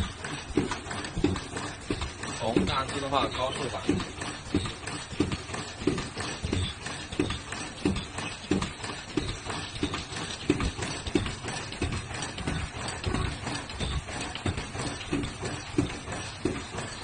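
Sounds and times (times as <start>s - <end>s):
mask machine knocking rhythmically: 0.0s - 17.0s
mechanical clatter: 0.0s - 17.0s.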